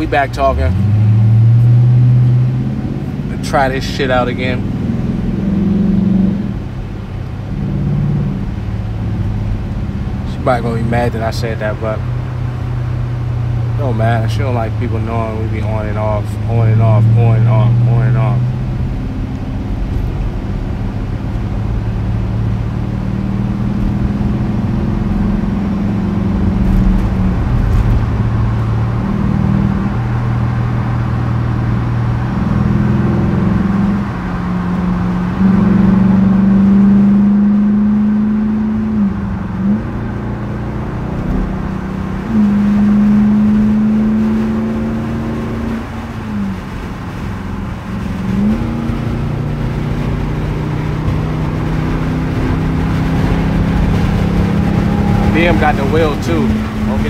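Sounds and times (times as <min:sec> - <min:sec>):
engine droning while driving: 0:00.0 - 0:57.0.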